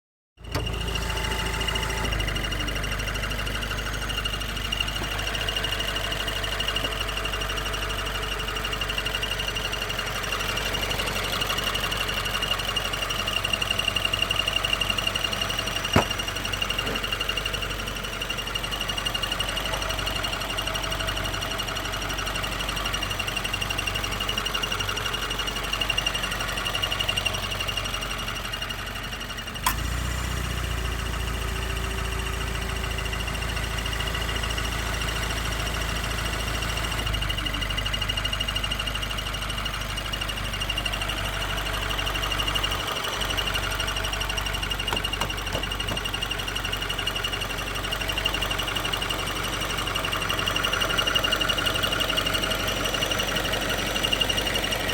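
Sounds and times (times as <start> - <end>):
car engine with fast ticking: 0.4 - 54.9.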